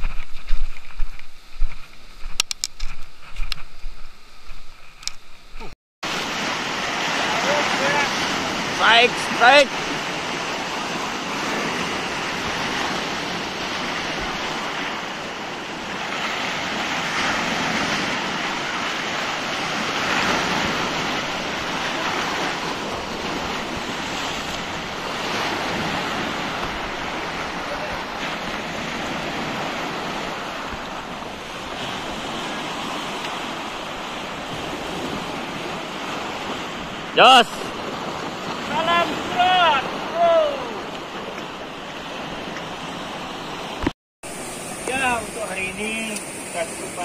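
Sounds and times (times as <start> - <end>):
wind buffeting microphone: 0.0 - 47.0
sea surf breaking: 5.6 - 47.0.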